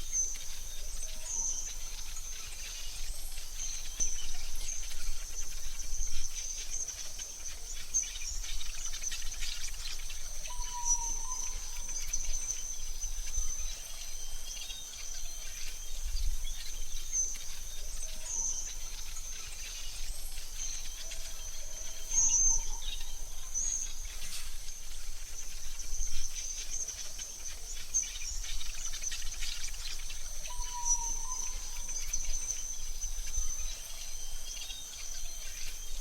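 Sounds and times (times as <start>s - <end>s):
bird chirps: 0.0s - 36.0s
high insect trill: 0.0s - 36.0s.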